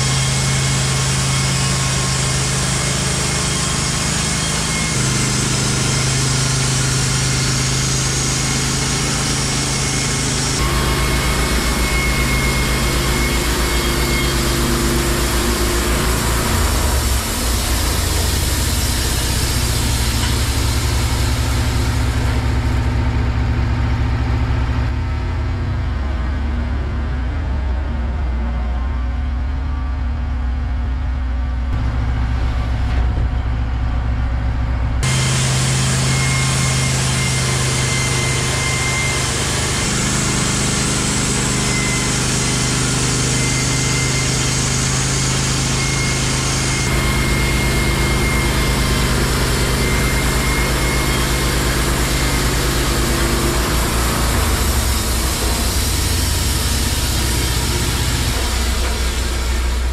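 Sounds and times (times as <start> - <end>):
band sawmill engine humming: 0.0 - 24.9, 31.8 - 59.9.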